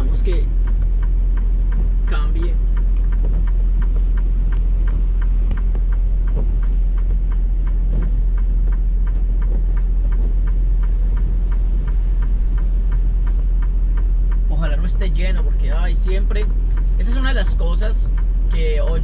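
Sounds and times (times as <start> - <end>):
diesel engine idling: 0.0 - 19.0
turn signal clicking: 0.0 - 19.0.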